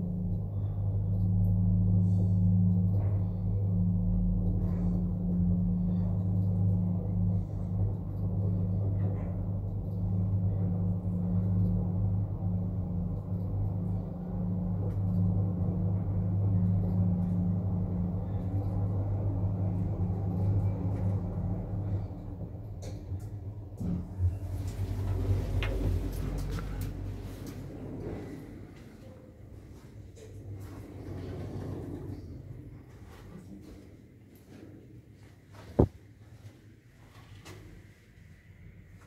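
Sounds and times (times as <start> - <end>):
lift car humming and rumbling: 0.0 - 34.0.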